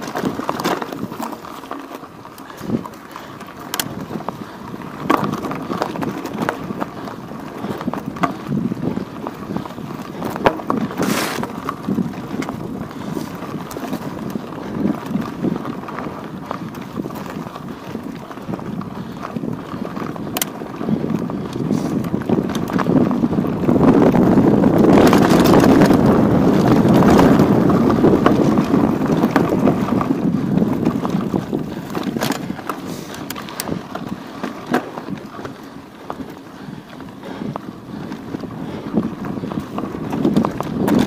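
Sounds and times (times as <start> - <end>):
wind rushing over microphone: 2.3 - 41.0.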